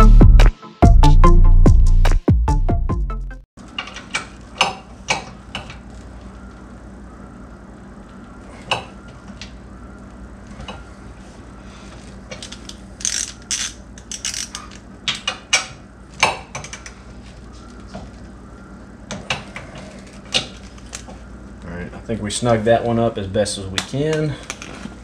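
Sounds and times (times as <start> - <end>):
steady low hum: 3.6 - 25.0.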